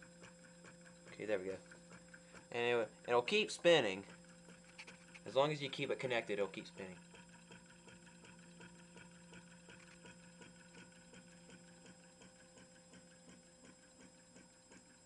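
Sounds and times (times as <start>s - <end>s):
motor rotor ticking: 0.0s - 15.0s.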